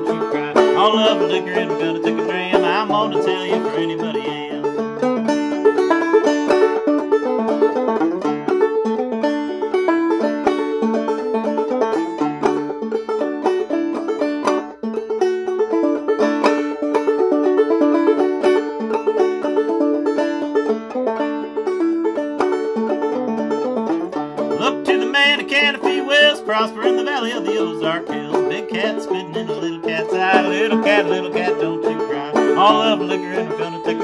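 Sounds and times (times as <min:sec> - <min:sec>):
banjo plucked and brushed: 0:00.0 - 0:34.0.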